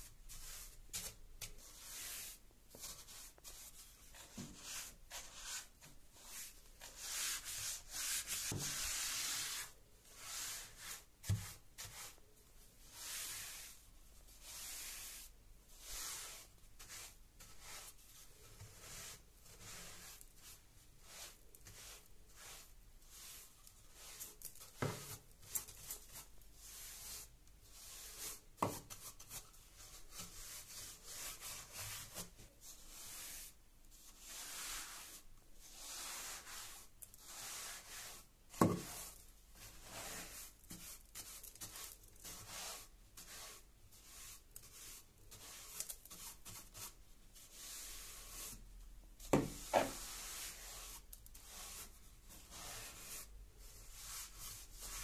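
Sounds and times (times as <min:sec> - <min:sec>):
brush bristles sweeping grit: 0:00.0 - 0:55.0.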